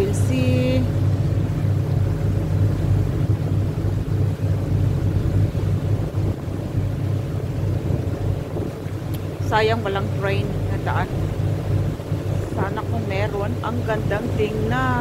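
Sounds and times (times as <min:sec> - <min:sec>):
boat engine droning: 0:00.0 - 0:15.0
wind buffeting microphone: 0:00.0 - 0:15.0.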